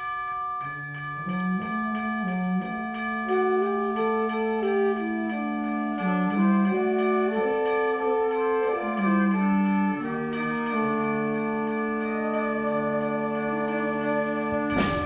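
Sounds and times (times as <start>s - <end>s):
wind band playing sustained notes: 1.2s - 15.0s.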